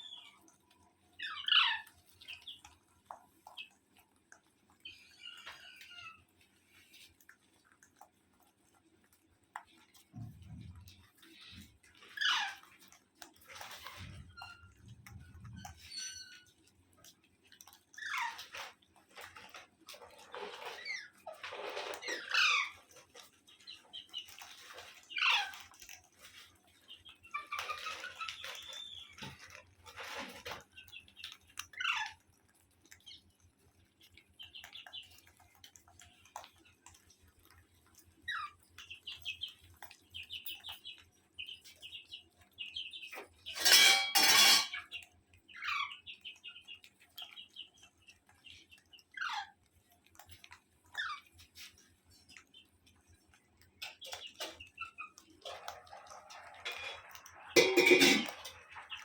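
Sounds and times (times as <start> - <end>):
parrot chirping and chattering: 0.0 - 59.0.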